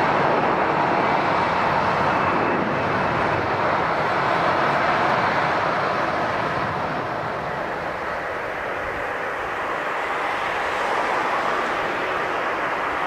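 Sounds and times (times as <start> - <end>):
jet airliner engine rushing: 0.0 - 13.0.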